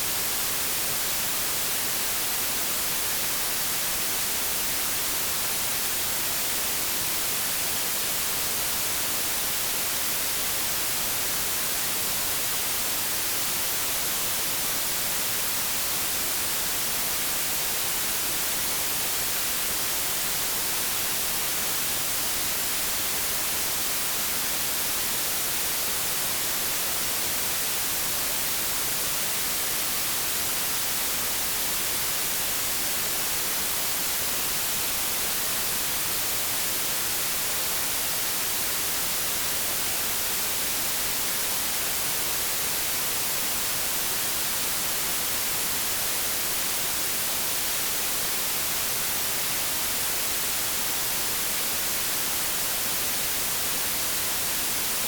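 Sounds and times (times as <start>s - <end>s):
white noise static hiss: 0.0s - 55.0s.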